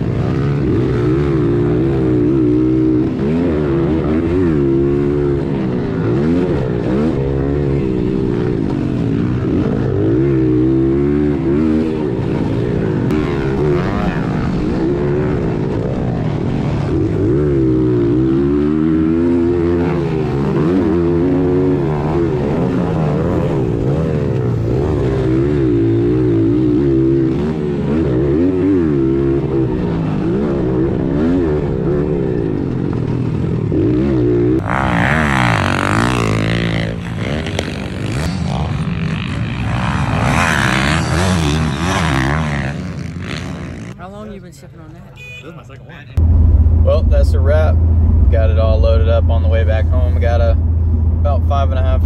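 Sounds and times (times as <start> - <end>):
pit bike engine revving: 0.0 - 44.2
distant pit bike engines: 0.0 - 52.0.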